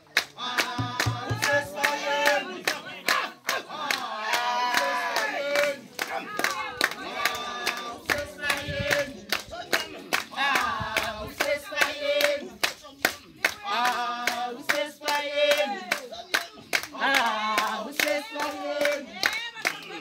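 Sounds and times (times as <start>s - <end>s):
rhythmic hand clapping: 0.0s - 20.0s
group singing: 0.2s - 20.0s.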